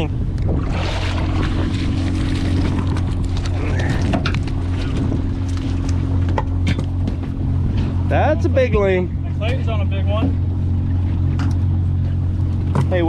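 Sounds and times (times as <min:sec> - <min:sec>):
boat engine humming: 0:00.0 - 0:13.0
sea noise: 0:00.0 - 0:13.0
wind: 0:00.0 - 0:13.0.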